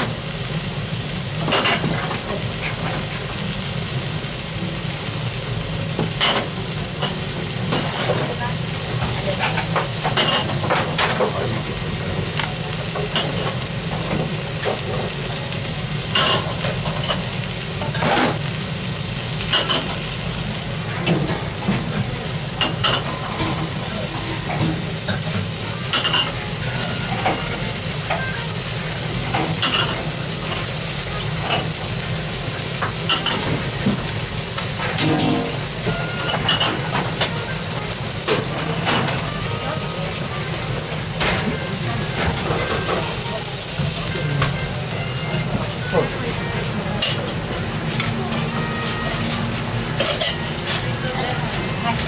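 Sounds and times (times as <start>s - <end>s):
meat sizzling with popping fat: 0.0s - 52.0s.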